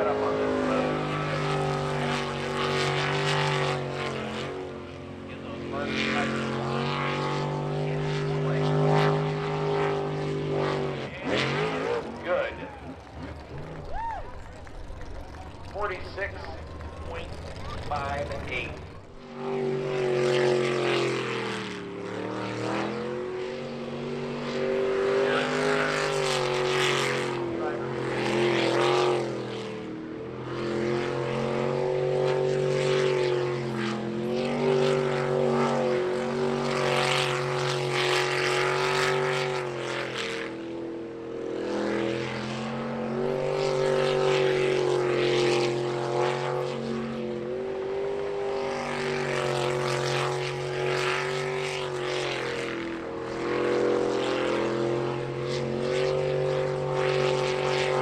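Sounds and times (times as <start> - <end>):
boat engine racing: 0.0 - 58.0.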